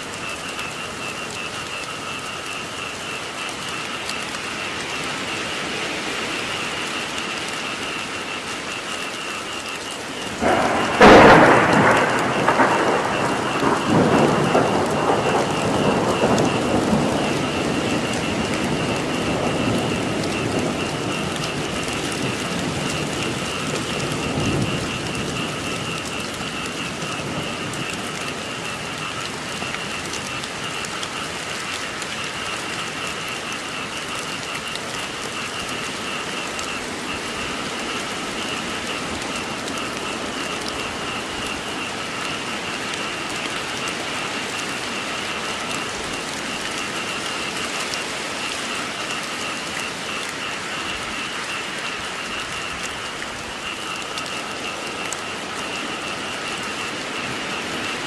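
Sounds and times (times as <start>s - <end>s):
frogs calling: 0.0s - 58.0s
heavy rain falling: 0.0s - 58.0s
thunderclap and rumble: 0.0s - 58.0s.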